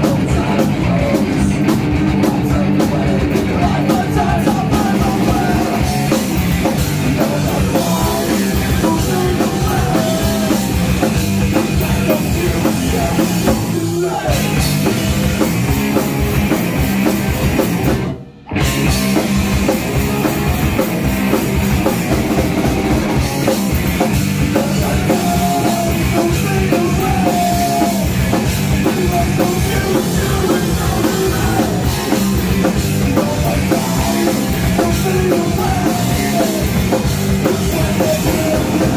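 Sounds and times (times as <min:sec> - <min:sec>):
sung vocals: 0:00.0 - 0:16.0, 0:23.1 - 0:38.9
punk rock band playing: 0:00.0 - 0:38.9.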